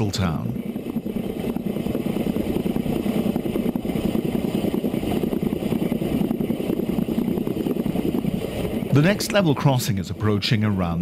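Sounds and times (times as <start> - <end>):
rattle of wheels on rails: 0.0 - 11.0
steam locomotive rumbling: 0.0 - 11.0.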